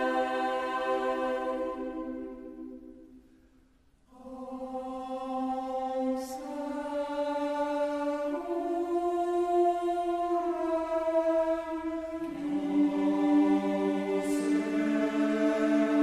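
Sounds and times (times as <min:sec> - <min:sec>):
choir singing held chords: 0:00.0 - 0:03.3, 0:04.1 - 0:16.0.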